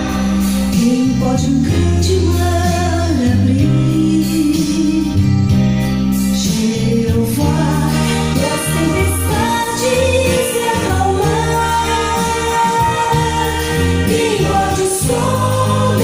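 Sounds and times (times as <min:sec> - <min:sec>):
vocal music over loudspeakers: 0:00.0 - 0:16.0.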